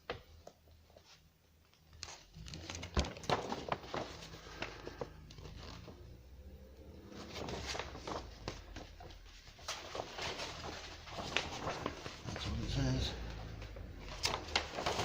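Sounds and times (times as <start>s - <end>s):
paper and packaging rustling: 0.2s - 15.0s.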